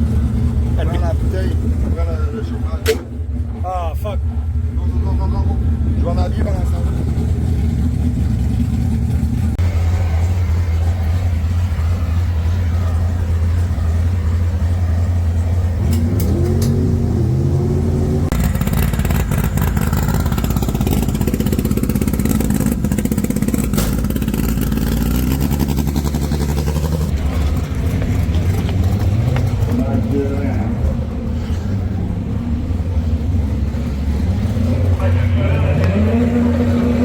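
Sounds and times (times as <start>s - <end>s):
drag car engine revving: 0.0s - 37.0s.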